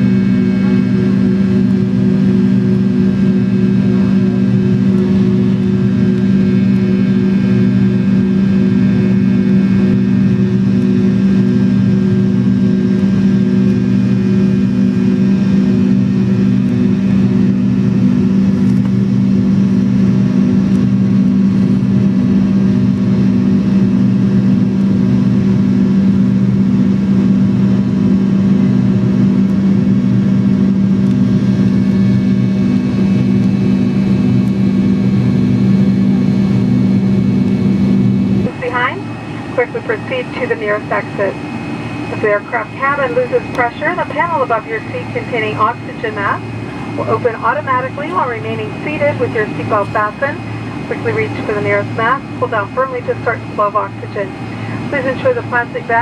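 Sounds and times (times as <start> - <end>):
airliner cabin low hum: 0.0 - 56.0
faint steady whines: 0.0 - 56.0.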